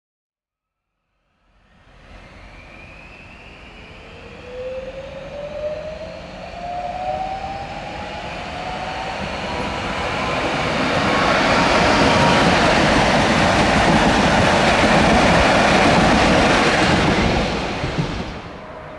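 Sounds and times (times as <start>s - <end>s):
thin train whine: 1.0s - 18.9s
train running noise: 1.5s - 18.9s.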